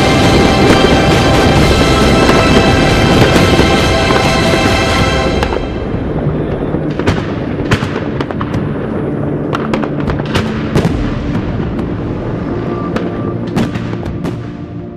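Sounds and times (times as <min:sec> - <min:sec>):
fireworks rumble: 0:00.0 - 0:14.9
sharp fireworks bangs and cracks: 0:00.0 - 0:14.9.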